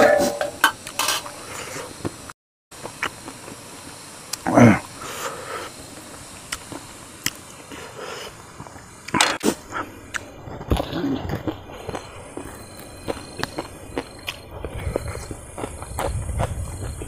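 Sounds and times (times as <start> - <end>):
crunchy chewing: 2.8 - 17.0.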